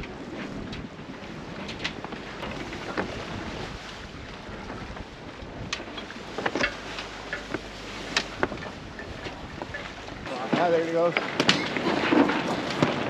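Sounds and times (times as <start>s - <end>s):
water rushing along hulls: 0.0s - 13.0s
wind buffeting microphone: 0.0s - 13.0s.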